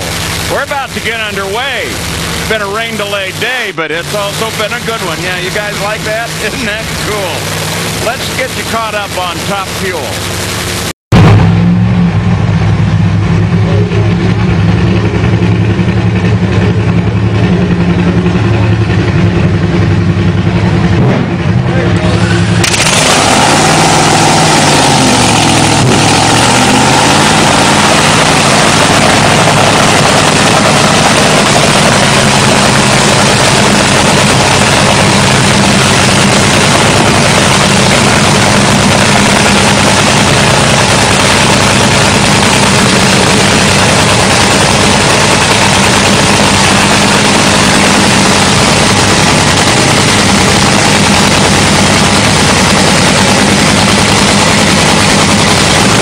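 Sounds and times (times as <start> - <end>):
dragster engine idling loudly: 0.0 - 56.0.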